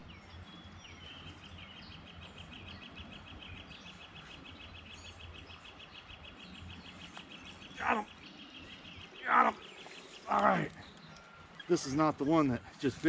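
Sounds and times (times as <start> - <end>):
faint bird chirps: 0.0 - 12.9.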